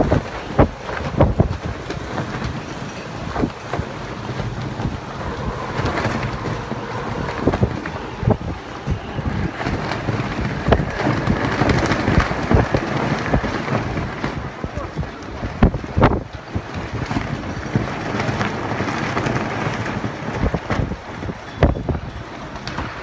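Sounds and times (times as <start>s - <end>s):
gusty storm wind: 0.0s - 23.0s
wind buffeting thumps: 0.0s - 23.0s.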